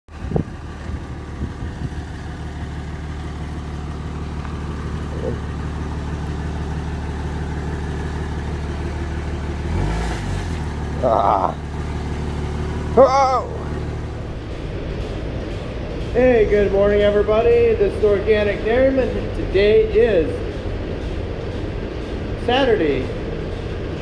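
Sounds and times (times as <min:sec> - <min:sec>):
pickup truck engine running: 0:00.1 - 0:24.0.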